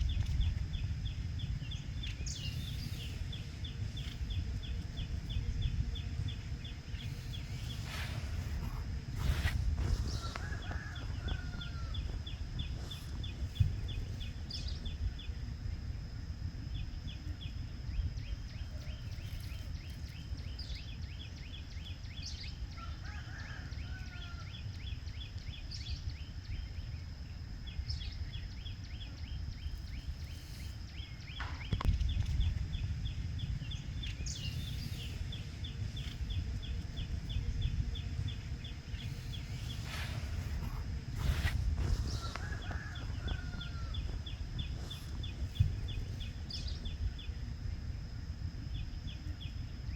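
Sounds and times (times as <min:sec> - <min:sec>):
high insect drone: 0:00.0 - 0:49.9
rhythmic insect ticking: 0:00.0 - 0:49.9
wind rumble on microphone: 0:00.0 - 0:49.9.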